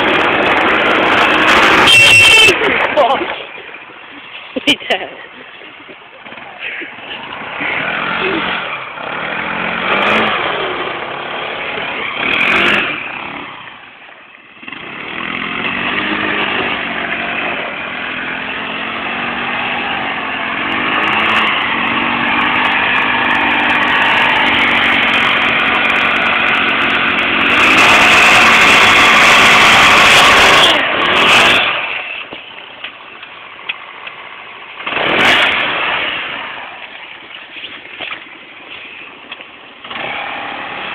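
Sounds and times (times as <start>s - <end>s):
quad bike engine revving: 0.0s - 40.9s.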